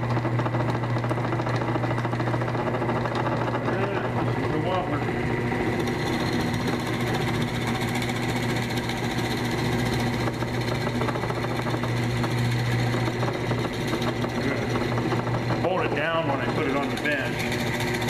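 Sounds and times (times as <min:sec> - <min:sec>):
drill press motor humming: 0:00.0 - 0:18.0.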